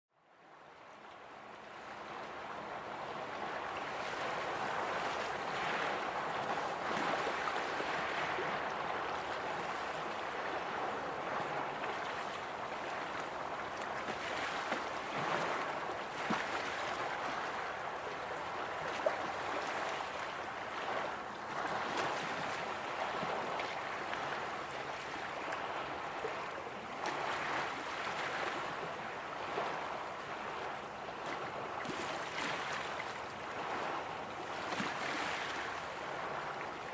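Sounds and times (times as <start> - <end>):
small waves washing onto shore: 0.4 - 36.9.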